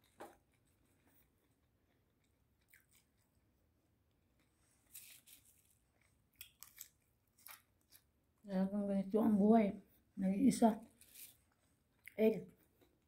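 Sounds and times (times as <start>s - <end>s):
faint chewing and crunching: 0.0s - 8.5s, 10.8s - 13.0s.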